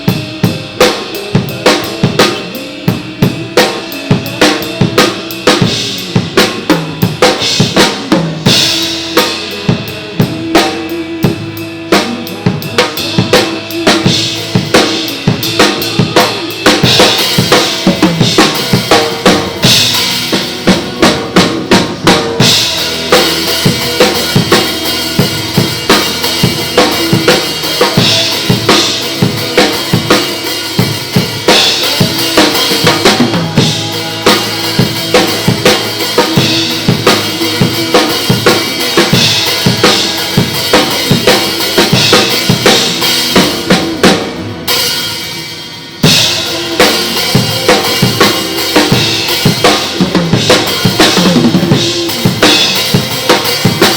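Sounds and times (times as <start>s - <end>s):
backing music: 0.0s - 53.9s
drum kit playing: 0.0s - 53.9s.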